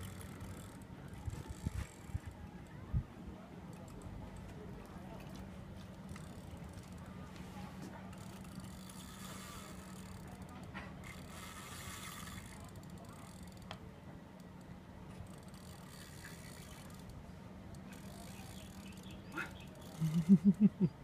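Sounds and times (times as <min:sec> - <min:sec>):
fishing reel ticking and whirring: 0:00.0 - 0:02.8, 0:03.7 - 0:07.1, 0:08.1 - 0:13.8, 0:14.4 - 0:20.6.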